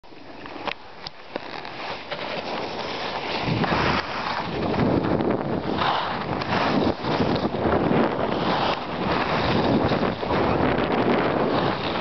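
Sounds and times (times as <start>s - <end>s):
skis scraping on snow: 0.2s - 12.0s
wind on microphone: 2.1s - 12.0s.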